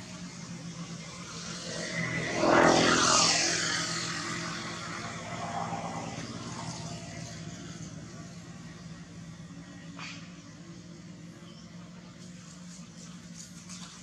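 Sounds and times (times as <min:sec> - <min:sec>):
passing engine drone: 0:00.0 - 0:14.0.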